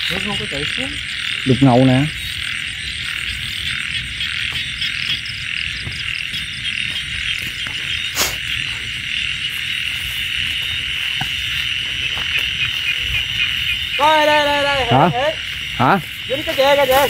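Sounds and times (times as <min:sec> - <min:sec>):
crickets trilling: 0:00.0 - 0:17.0
frogs calling: 0:00.0 - 0:17.0.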